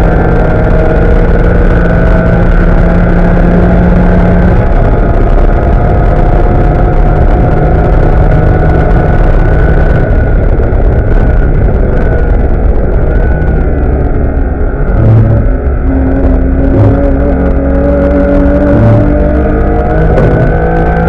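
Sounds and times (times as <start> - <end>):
race car engine at full throttle: 0.0 - 21.0
wind and tyre noise: 0.0 - 21.0.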